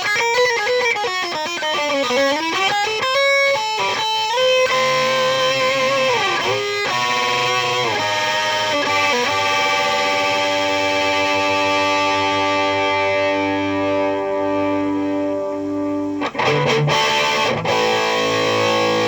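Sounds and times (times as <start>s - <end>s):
distorted electric guitar lead: 0.0s - 19.0s.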